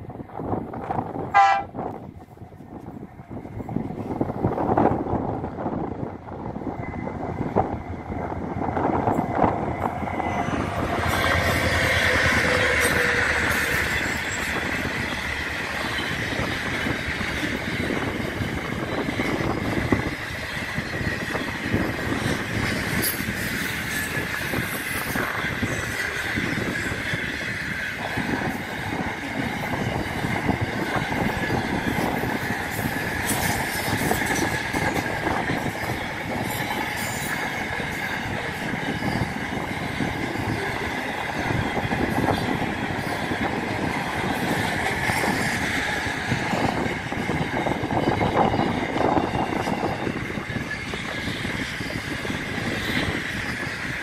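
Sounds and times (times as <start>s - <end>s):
train wheels rumbling on rail: 0.0s - 54.0s
high wheel squeal: 6.7s - 54.0s.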